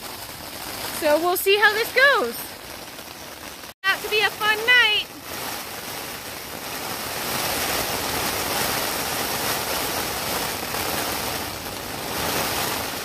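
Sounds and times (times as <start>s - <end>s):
wind and rain on tent: 0.0s - 13.0s.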